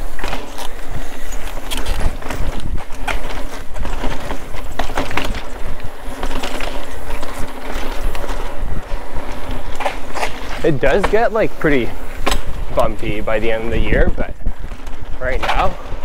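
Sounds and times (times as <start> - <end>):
bike rattling and knocking: 0.0 - 16.0
tyres rumbling on dirt trail: 0.0 - 16.0
wind over camera: 0.0 - 16.0.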